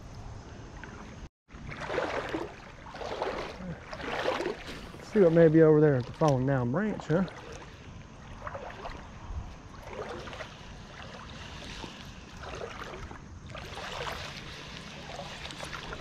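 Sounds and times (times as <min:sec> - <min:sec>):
creek water sloshing and trickling: 0:00.0 - 0:16.0
soft water swishes: 0:00.0 - 0:16.0.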